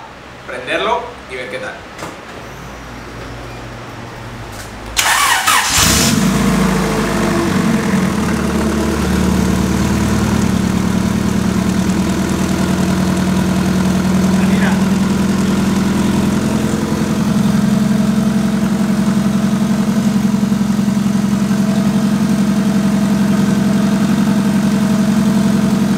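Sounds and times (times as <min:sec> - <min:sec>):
car engine cranking and starting: 0:05.0 - 0:25.9
car engine idling: 0:05.0 - 0:25.9.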